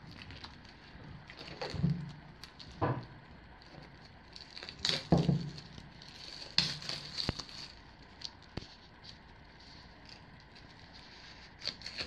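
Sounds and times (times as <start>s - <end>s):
shrink-wrap crinkling and tearing: 0.0s - 12.0s.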